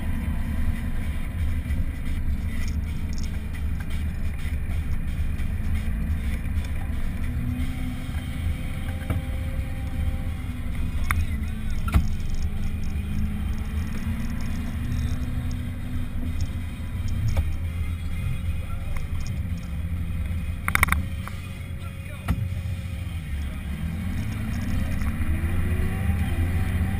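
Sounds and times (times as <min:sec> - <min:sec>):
tractor diesel engine rumble: 0:00.0 - 0:26.9.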